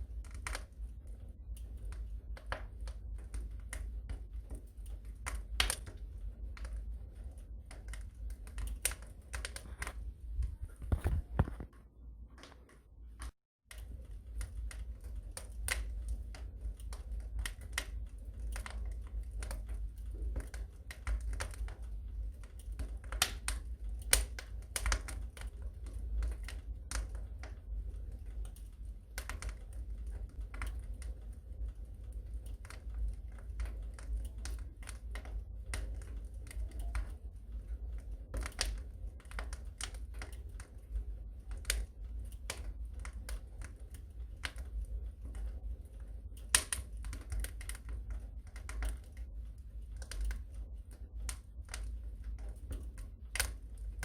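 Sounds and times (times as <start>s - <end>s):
burning logs crackling and popping: 0.0s - 54.0s
low fire rumble: 0.0s - 54.0s.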